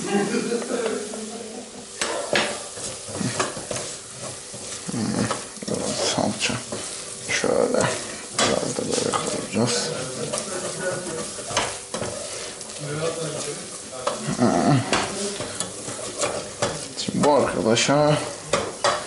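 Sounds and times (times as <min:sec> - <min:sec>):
vegetables sizzling in oil: 0:00.0 - 0:19.0
spoon scraping a pan: 0:01.9 - 0:19.0.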